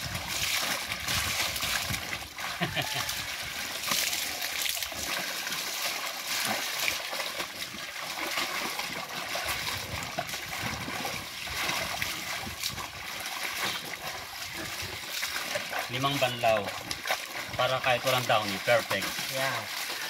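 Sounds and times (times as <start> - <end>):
water pouring and dripping: 0.0 - 20.0
water splashing in basins: 0.0 - 20.0.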